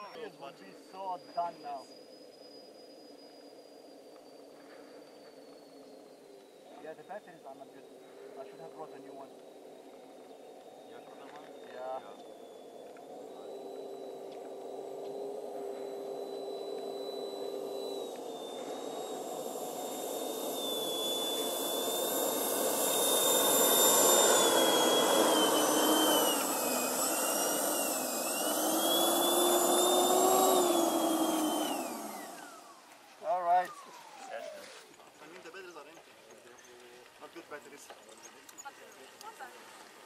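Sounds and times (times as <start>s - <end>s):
electric ducted fans whining: 0.0s - 40.0s.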